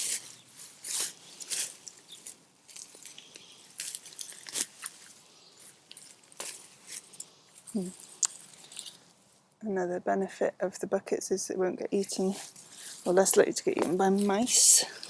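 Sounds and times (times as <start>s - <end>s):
dry soil crunching and scraping: 0.0s - 9.5s, 12.0s - 15.0s.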